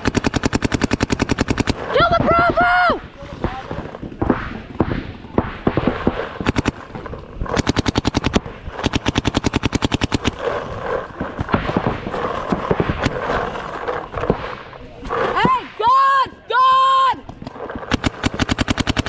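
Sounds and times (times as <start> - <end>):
paintball marker firing rapidly: 0.0 - 2.5, 3.2 - 15.7, 17.2 - 19.0.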